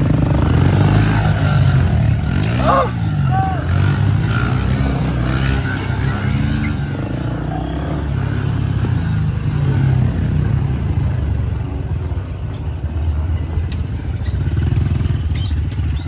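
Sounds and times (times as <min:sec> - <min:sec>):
dirt bike engines pulsing: 0:00.0 - 0:16.0.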